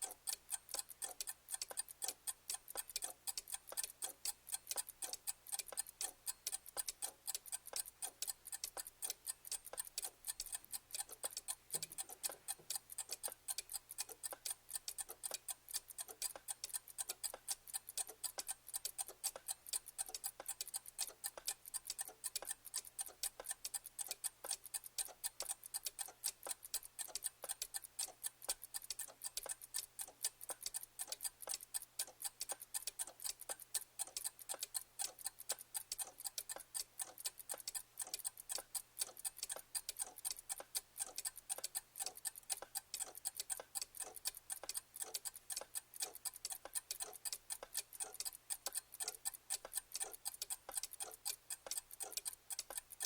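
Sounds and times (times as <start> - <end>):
clock ticking: 0.0 - 53.0.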